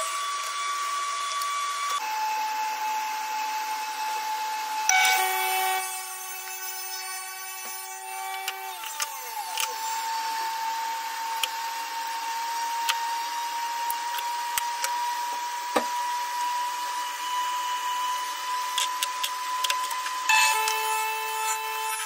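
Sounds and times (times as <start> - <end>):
power tool motor whine: 0.0 - 22.0.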